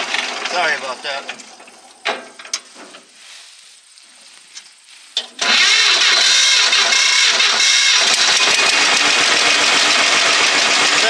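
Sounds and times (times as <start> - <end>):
tractor engine cranking and running: 0.0 - 3.1, 4.4 - 11.0.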